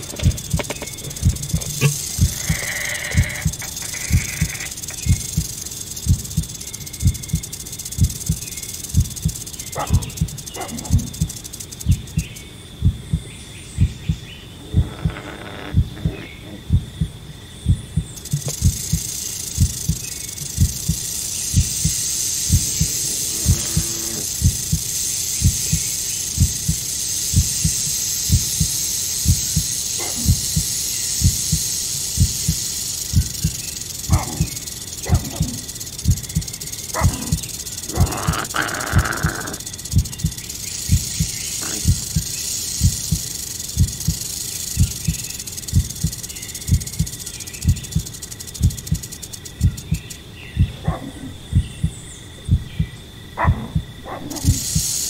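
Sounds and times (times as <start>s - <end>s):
heartbeat thumps: 0.0s - 55.0s
steady high hiss: 0.0s - 55.0s.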